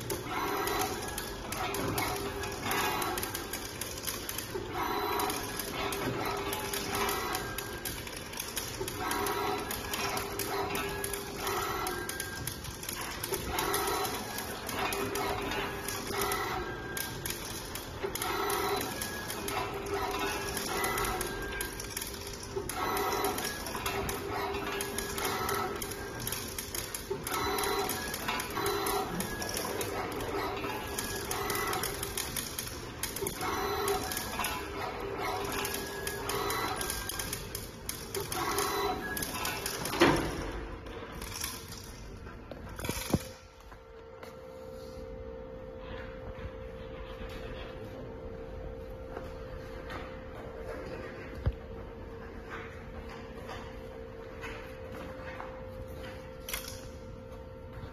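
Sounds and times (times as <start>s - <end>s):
machine motors whining: 0.0s - 57.9s.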